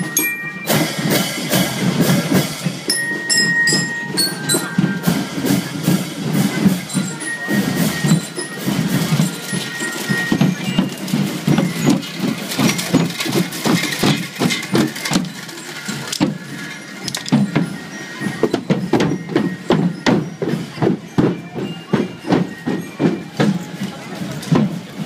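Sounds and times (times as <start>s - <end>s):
marching drums beating: 0.0s - 25.0s
street crowd hubbub: 0.0s - 25.0s.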